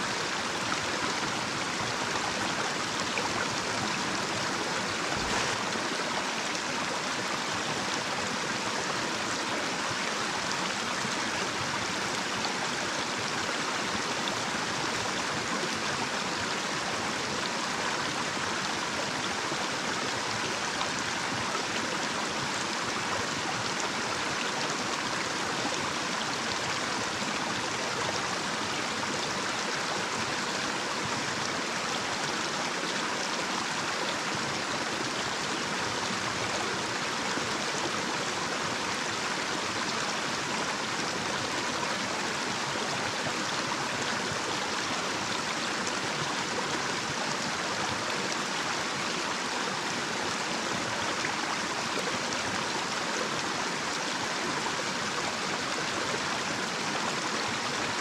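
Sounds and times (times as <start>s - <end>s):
stream rushing over cascade: 0.0s - 58.0s.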